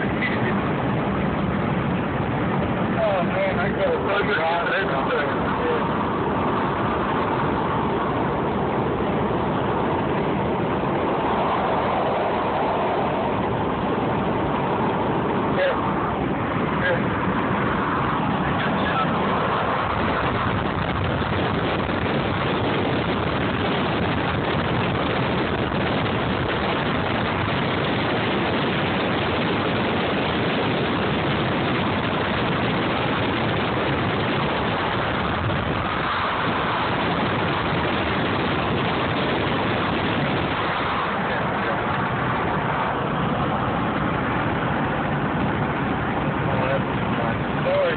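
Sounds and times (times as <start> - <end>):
road and wind noise in car: 0.0 - 47.9.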